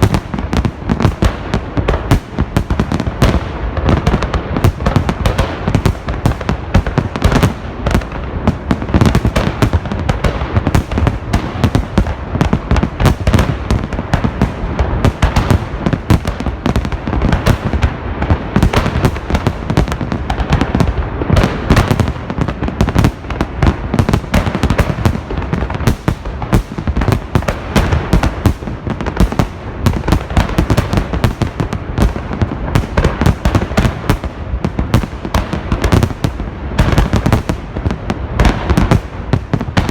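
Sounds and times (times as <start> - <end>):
fireworks bursts and bangs: 0.0 - 39.9.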